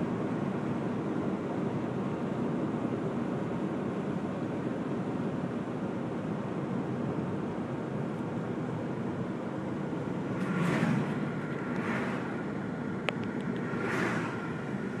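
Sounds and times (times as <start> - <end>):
car tyre and road noise: 0.0 - 15.0.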